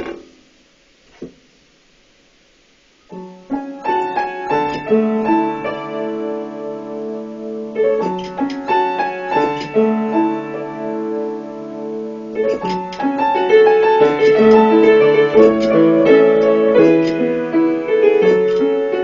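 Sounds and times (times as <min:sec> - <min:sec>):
piano playing: 0:03.1 - 0:19.0.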